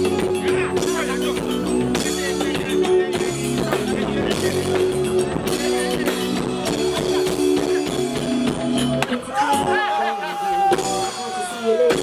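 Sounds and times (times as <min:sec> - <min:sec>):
bass notes: 0:00.0 - 0:09.9
drums steady beat: 0:00.0 - 0:12.0
keyboard notes: 0:00.0 - 0:12.0.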